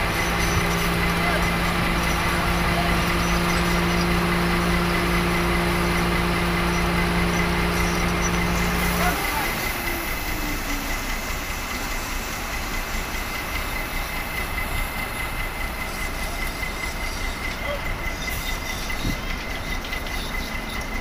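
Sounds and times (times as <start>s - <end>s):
heavy diesel machinery running: 0.0s - 21.0s.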